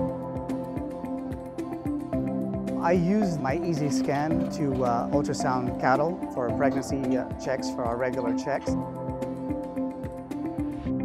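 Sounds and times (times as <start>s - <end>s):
sustained music notes: 0.0s - 11.0s.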